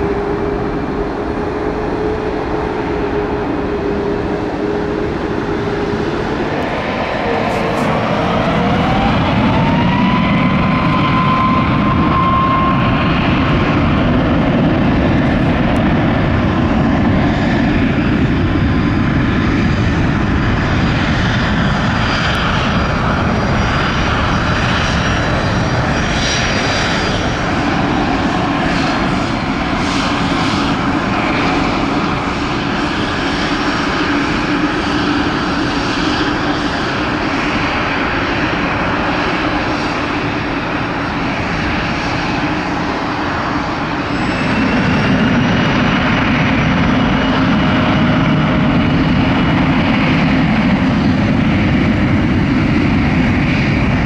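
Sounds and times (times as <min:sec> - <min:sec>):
jet engines spooling up: 0:00.0 - 0:54.0.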